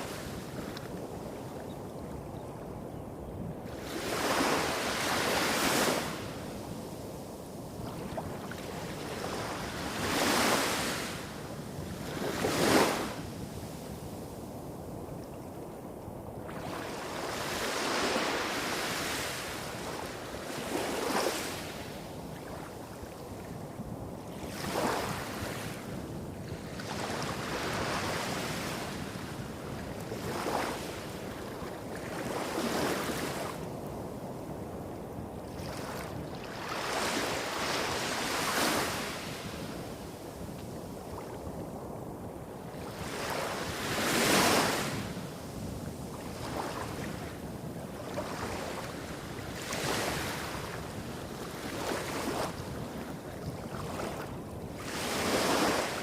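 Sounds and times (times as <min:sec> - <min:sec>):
small waves breaking on a beach: 0:00.0 - 0:56.0.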